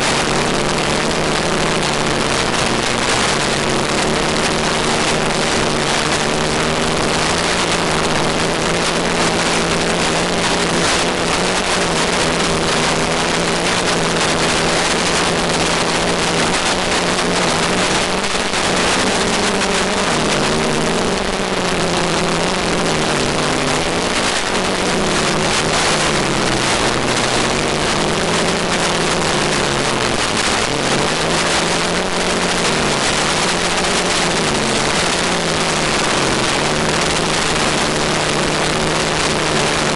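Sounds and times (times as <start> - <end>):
drone propellers humming: 0.0 - 39.9
loud even hiss: 0.0 - 39.9.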